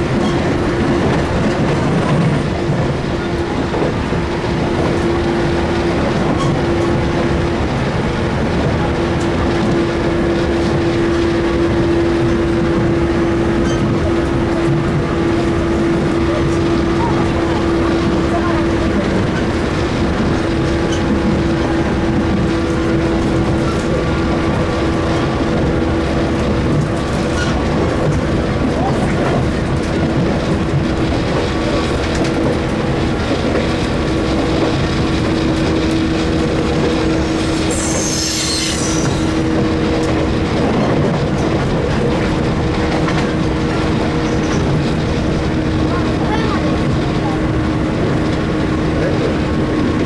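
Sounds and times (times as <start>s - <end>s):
wheels rumbling on track: 0.0s - 50.0s.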